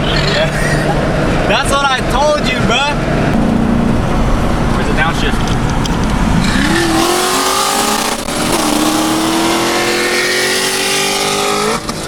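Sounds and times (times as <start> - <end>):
car engine accelerating hard: 0.8 - 12.0.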